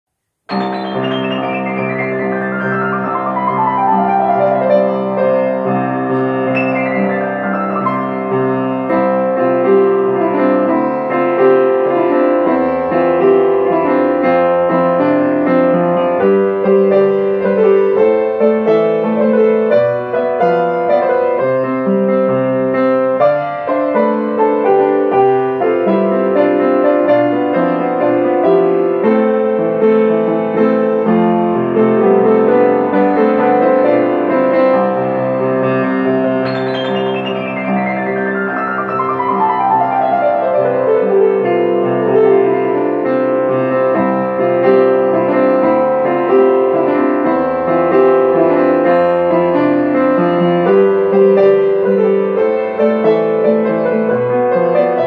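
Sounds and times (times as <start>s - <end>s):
solo piano playing: 0.4s - 55.0s.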